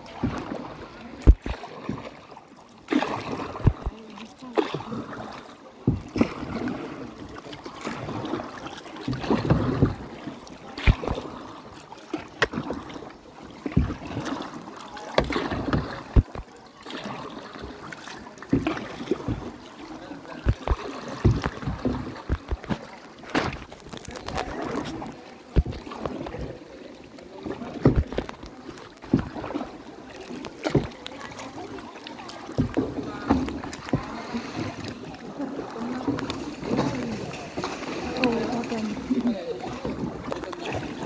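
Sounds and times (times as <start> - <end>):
paddle splashing in water: 0.0 - 41.0.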